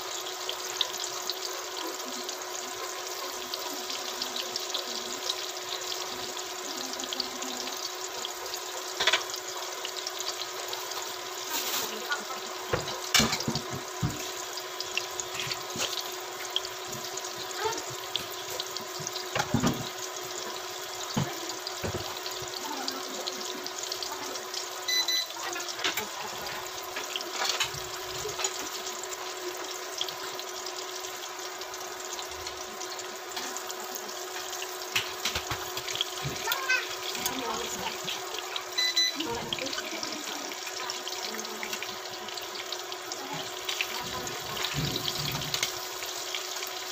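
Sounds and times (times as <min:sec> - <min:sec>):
food sizzling in hot oil: 0:00.0 - 0:46.9
oil crackling and popping: 0:00.0 - 0:46.9.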